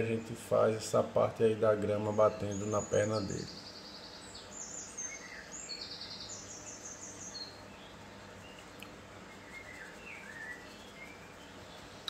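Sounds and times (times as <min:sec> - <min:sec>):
low steady room hum: 0:00.0 - 0:12.0
bird chirping: 0:01.4 - 0:12.0.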